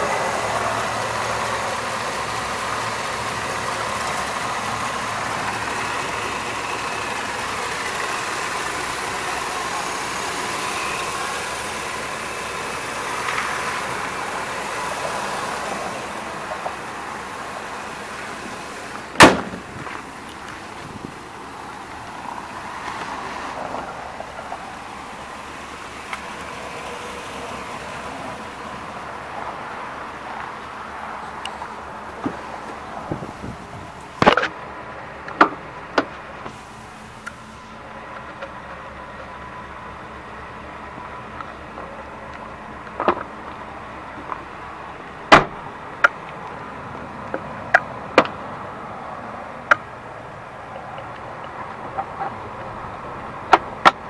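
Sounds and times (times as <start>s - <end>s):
motor vehicle noise: 0.0s - 54.0s.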